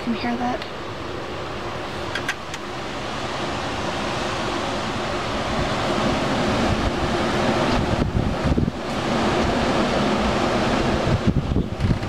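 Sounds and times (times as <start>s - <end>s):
wind rushing through trees: 0.0s - 12.0s
wind buffeting microphone: 1.4s - 12.0s.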